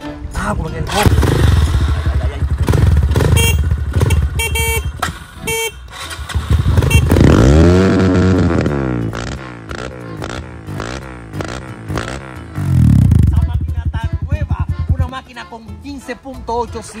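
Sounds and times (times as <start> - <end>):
motorbike engine revving: 0.9 - 15.1.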